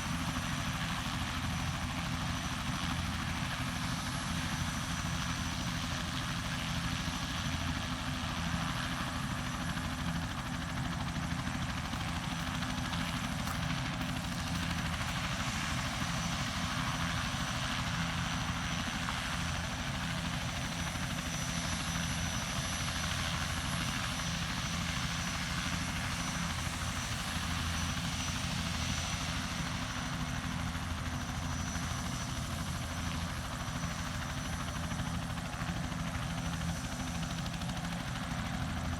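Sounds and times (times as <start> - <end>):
helicopter rotor beat: 0.0 - 38.9.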